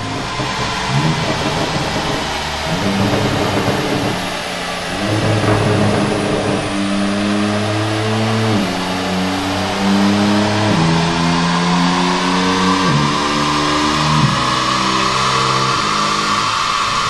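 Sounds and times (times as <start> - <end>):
car engine running on dyno: 0.0 - 17.0.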